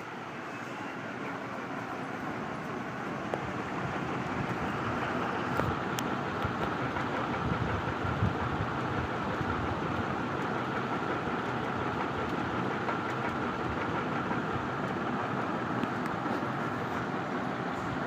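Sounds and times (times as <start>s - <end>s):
ceiling fan whirring: 0.0s - 18.0s
faint fan hum: 0.0s - 18.0s.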